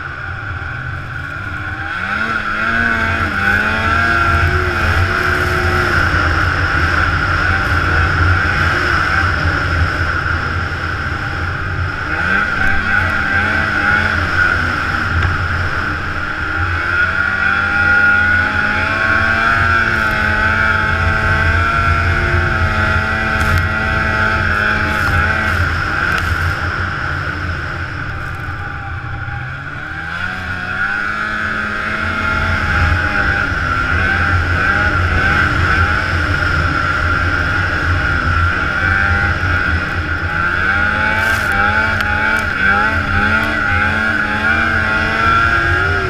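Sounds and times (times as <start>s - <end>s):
snowmobile engine whining: 0.0s - 46.0s.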